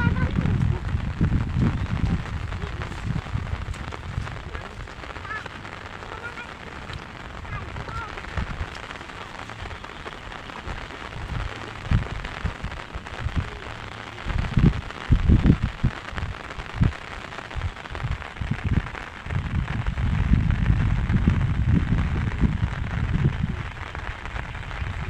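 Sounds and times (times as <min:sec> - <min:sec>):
low thumps and rumbles: 0:00.0 - 0:17.0, 0:17.6 - 0:25.0
rain hiss: 0:00.0 - 0:25.0.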